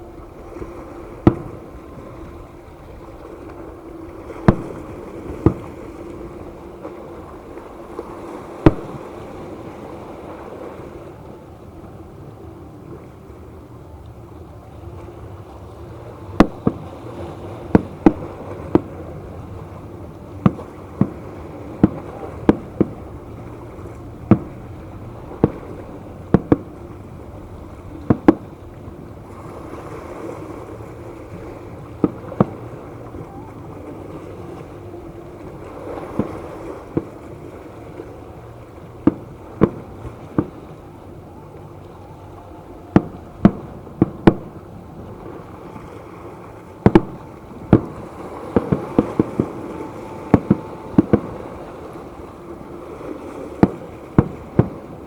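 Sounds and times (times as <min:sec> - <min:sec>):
background rumble: 0:00.0 - 0:55.0
low hum: 0:00.0 - 0:55.0.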